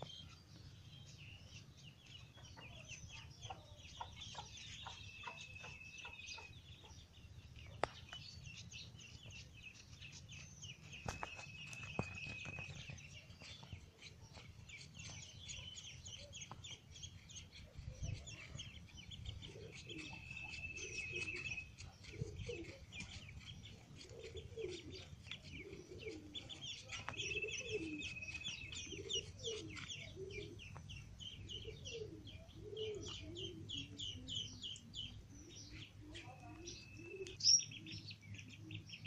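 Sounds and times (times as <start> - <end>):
ducklings peeping: 0.0 - 39.0.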